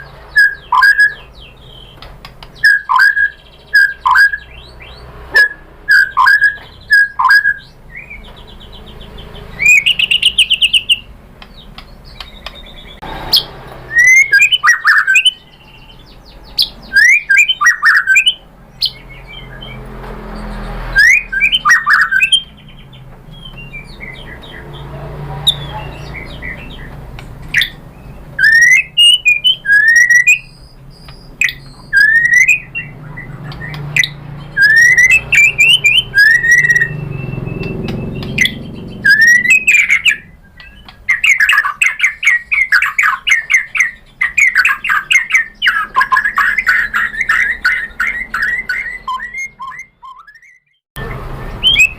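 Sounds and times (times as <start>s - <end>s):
bird singing whistled phrases: 0.0s - 8.3s, 9.2s - 11.1s, 12.0s - 19.8s, 20.5s - 24.8s, 25.5s - 51.9s.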